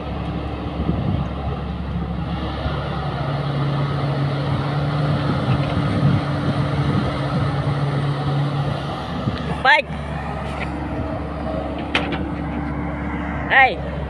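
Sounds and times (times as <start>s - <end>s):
excavator diesel engine under load: 0.0s - 14.0s.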